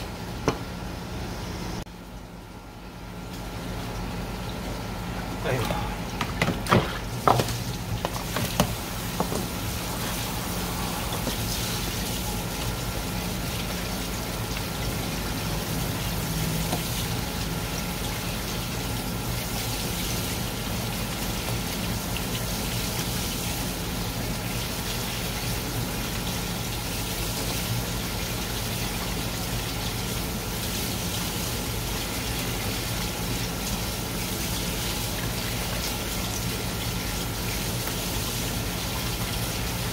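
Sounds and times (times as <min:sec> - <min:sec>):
tap water running: 0:03.3 - 0:39.9.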